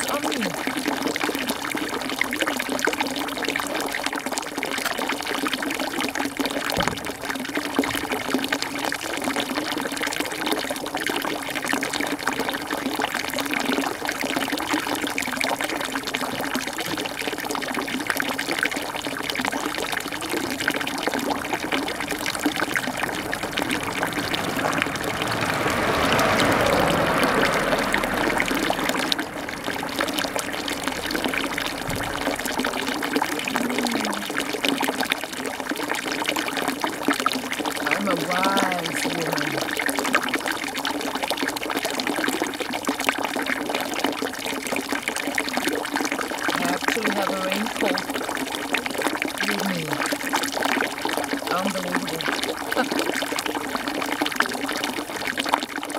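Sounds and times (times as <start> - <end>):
water rushing: 0.0 - 55.9
water trickling: 0.0 - 55.9.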